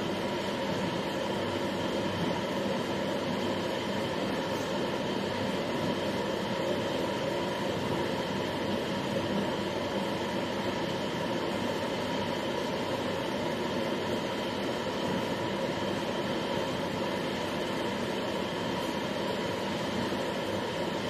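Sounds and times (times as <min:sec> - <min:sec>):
oven fans and burner roaring: 0:00.0 - 0:21.0.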